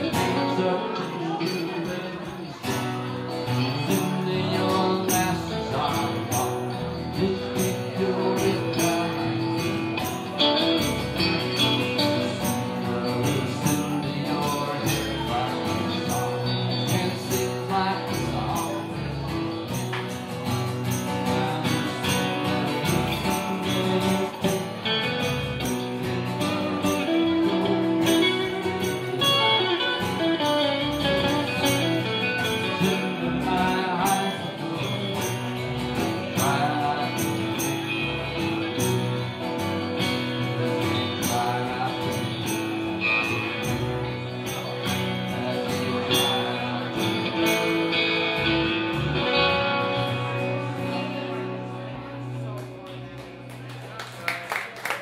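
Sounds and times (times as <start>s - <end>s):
live band playing: 0.0s - 53.5s.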